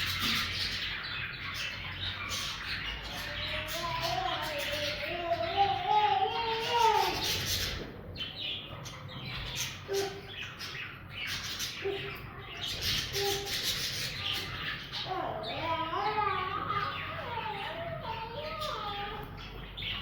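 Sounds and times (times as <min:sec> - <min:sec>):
budgies chattering and chirping: 0:00.0 - 0:20.0.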